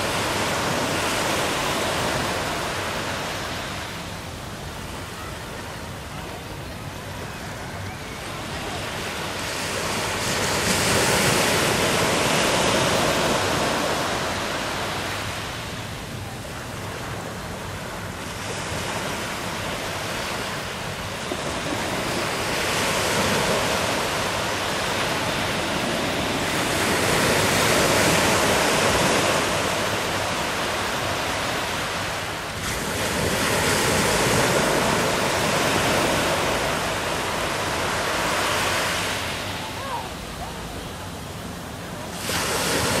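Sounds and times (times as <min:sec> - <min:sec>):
sea waves breaking: 0:00.0 - 0:05.2, 0:06.8 - 0:43.0.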